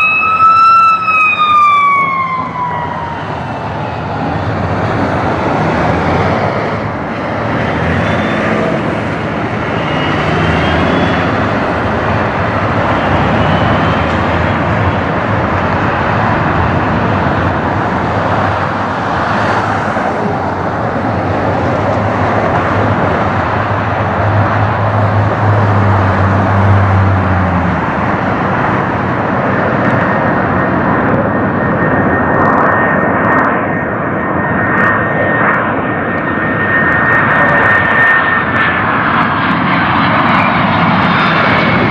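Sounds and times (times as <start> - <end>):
jet engines rushing: 0.0 - 41.9.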